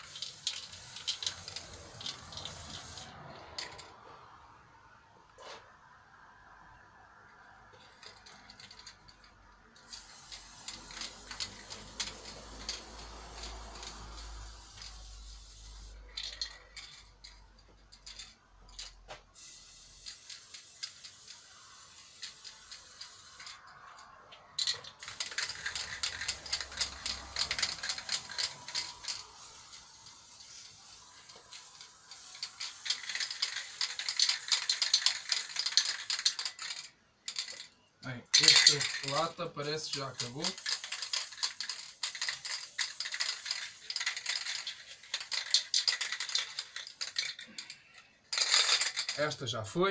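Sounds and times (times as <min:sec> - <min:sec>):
spray paint hissing: 0:00.0 - 0:03.8, 0:07.8 - 0:37.6, 0:38.4 - 0:49.2
spray can ball rattling: 0:00.0 - 0:04.0, 0:07.7 - 0:49.4.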